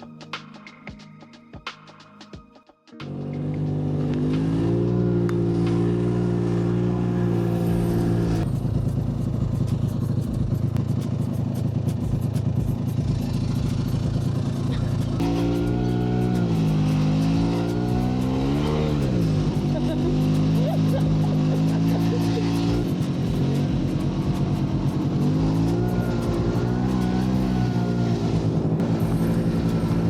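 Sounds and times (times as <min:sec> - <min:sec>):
car engine running hard: 0:03.1 - 0:30.0.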